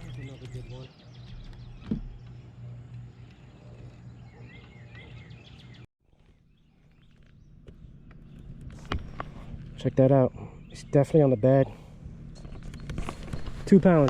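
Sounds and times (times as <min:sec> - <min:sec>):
bird chirping: 0:00.0 - 0:14.0
steady low hum: 0:00.0 - 0:14.0.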